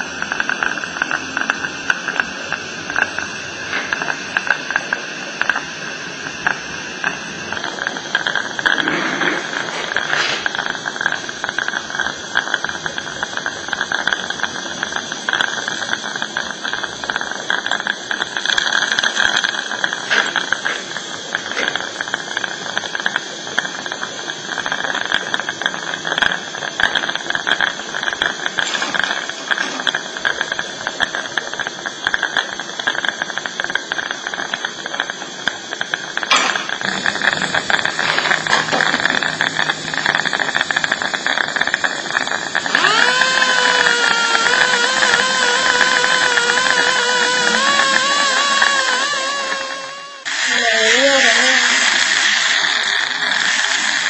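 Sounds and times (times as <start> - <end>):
steady hiss: 0.0 - 42.8, 43.4 - 54.0.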